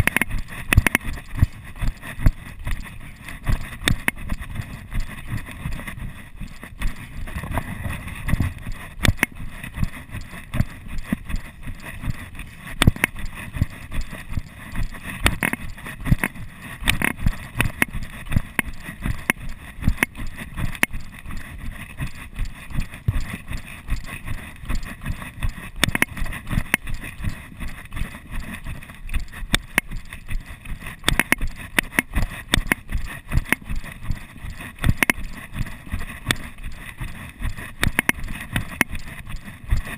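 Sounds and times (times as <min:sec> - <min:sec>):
camera jostling thuds and clicks: 0:00.0 - 0:39.9
running footsteps on dirt: 0:00.0 - 0:39.9.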